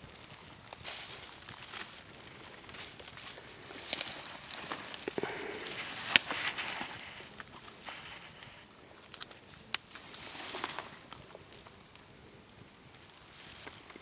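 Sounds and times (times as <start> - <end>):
log fire crackling: 0.0 - 14.0
rustling in dry leaves: 0.0 - 14.0.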